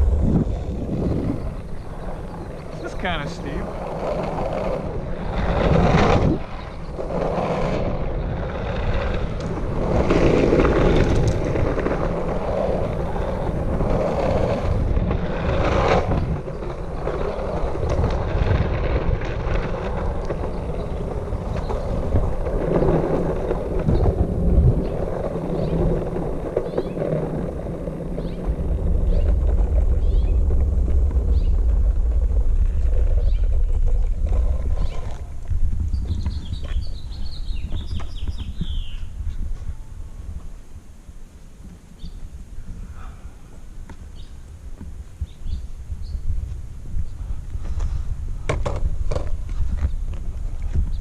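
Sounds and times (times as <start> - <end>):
wind buffeting microphone: 0.0 - 40.6, 42.0 - 51.0
longboard wheels rumbling on concrete: 0.0 - 51.0.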